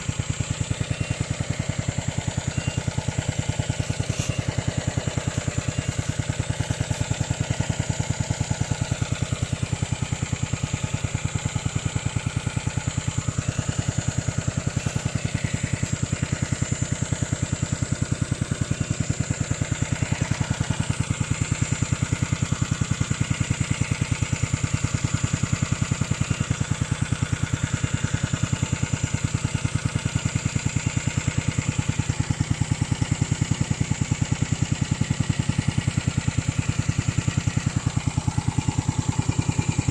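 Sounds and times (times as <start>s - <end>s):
constant high whine: 0.0s - 39.9s
lawn mower engine running: 0.0s - 39.9s.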